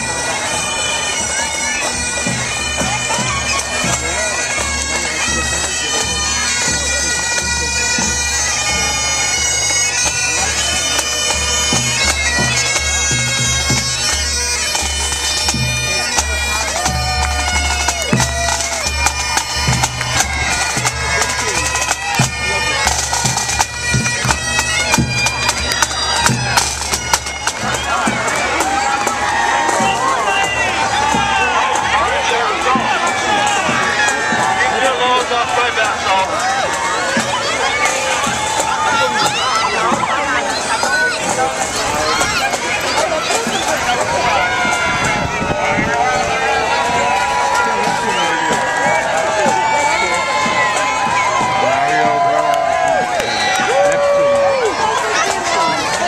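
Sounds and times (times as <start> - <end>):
bagpipes playing: 0.0 - 56.0
drums beating: 0.0 - 56.0.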